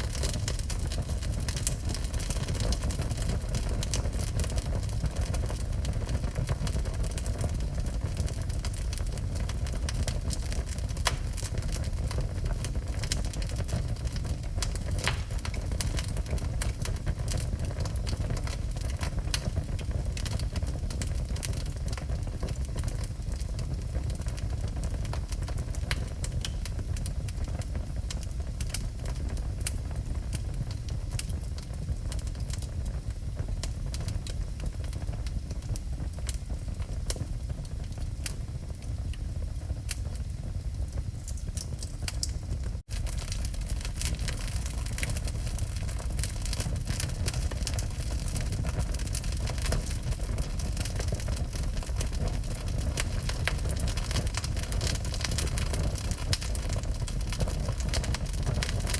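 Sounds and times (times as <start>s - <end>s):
fire low rumble: 0.0s - 58.9s
wood fire crackling and popping: 0.0s - 58.9s.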